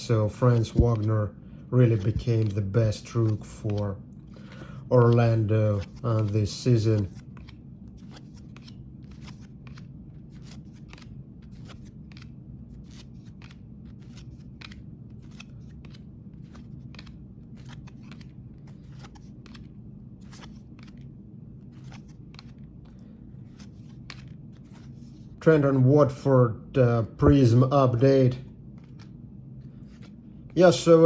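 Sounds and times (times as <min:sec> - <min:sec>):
trading cards clicking and rustling: 0:00.2 - 0:25.4, 0:28.7 - 0:31.0.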